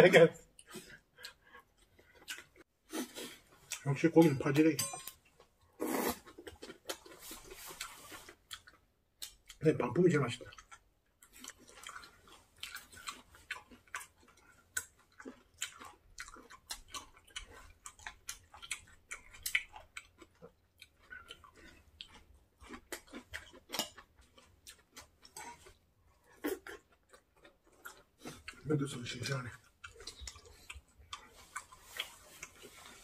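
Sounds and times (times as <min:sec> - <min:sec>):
person chewing food: 0:00.5 - 0:03.9, 0:05.0 - 0:09.6, 0:10.5 - 0:33.0.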